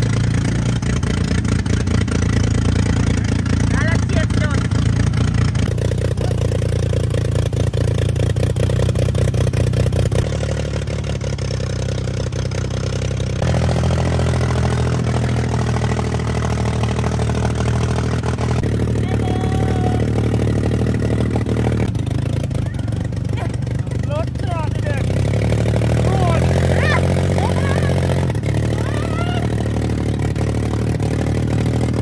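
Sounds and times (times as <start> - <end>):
off-road vehicle engines running: 0.0 - 32.0.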